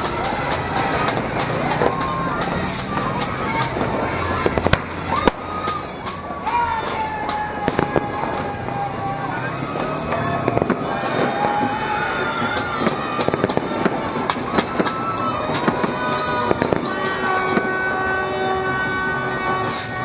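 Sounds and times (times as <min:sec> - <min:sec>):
firecrackers and fireworks banging: 0:00.0 - 0:20.0.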